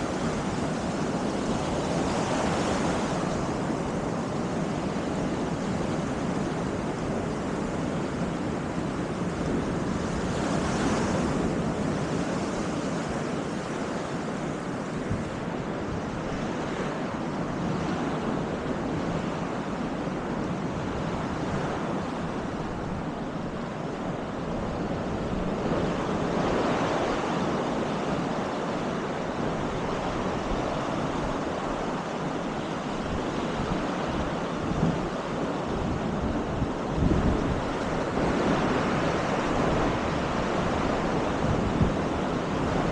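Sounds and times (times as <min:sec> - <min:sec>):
surf washing onto beach: 0:00.0 - 0:42.9
wind buffeting microphone: 0:00.0 - 0:42.9.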